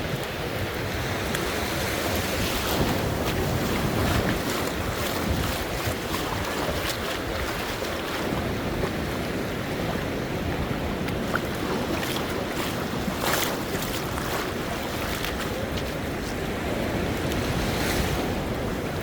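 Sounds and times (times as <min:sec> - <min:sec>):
sea waves washing: 0:00.0 - 0:19.0
wind buffeting microphone: 0:00.0 - 0:19.0.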